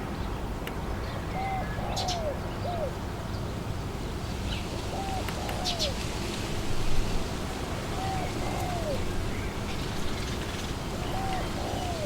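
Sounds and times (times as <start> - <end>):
wind blowing through trees: 0.0 - 12.0.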